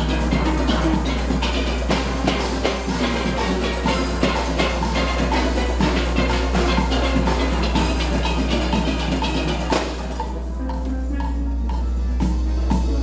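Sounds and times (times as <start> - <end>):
drums keeping the beat: 0.0 - 13.0
steel pans playing soca: 0.0 - 13.0.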